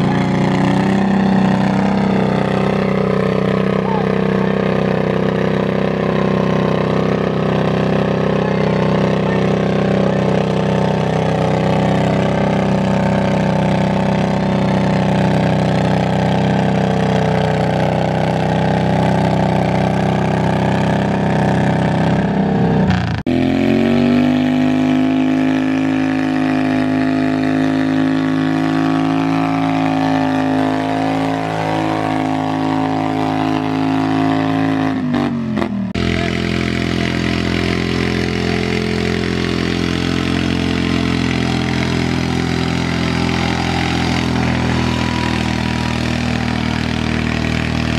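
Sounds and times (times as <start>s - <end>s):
garden tractor engines running hard: 0.0s - 47.9s.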